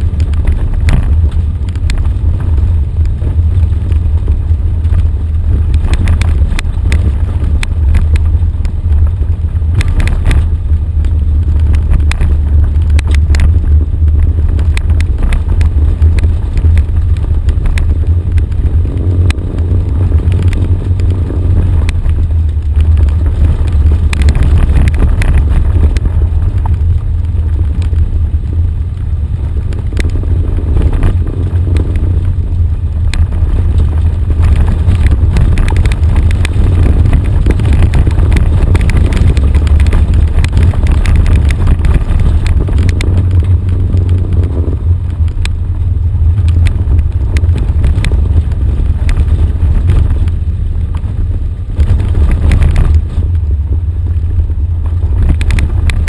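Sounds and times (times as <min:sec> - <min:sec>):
vehicle engine rumble: 0:00.0 - 0:56.0
wind on microphone: 0:00.0 - 0:56.0.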